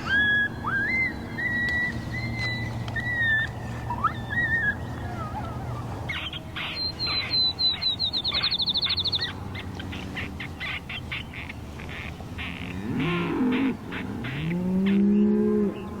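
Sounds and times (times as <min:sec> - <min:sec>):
bird chirps: 0:00.0 - 0:16.0
songbirds singing: 0:00.0 - 0:16.0.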